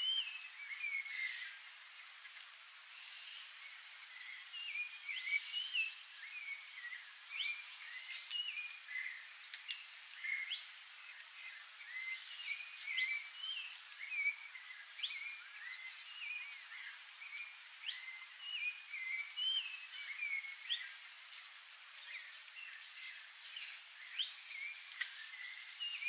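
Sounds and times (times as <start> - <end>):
songbirds whistling: 0.0 - 2.2, 2.9 - 21.0, 22.0 - 26.0.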